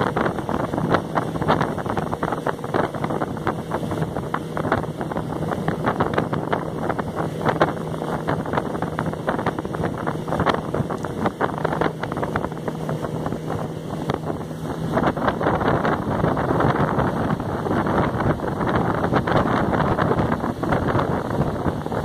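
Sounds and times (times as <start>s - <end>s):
outboard motor running: 0.0s - 22.0s
water rushing and splashing: 0.0s - 22.0s
wind on microphone: 0.0s - 22.0s.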